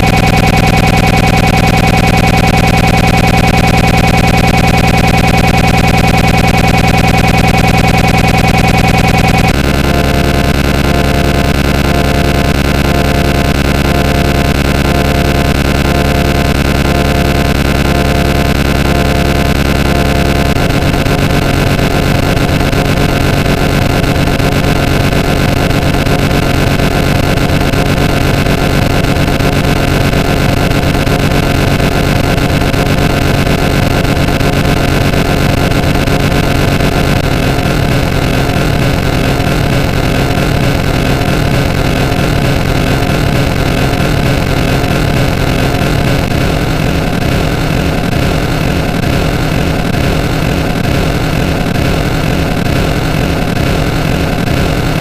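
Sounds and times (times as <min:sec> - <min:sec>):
layered sound effects: 0:00.0 - 0:50.2.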